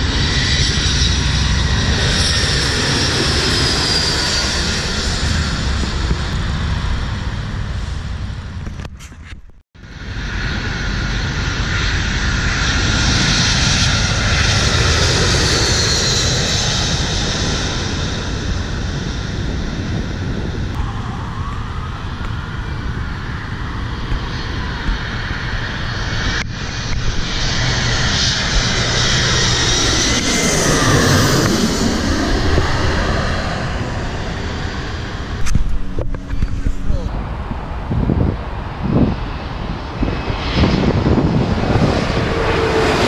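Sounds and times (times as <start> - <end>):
jet airliner passing overhead: 0.0 - 9.0, 9.8 - 43.0.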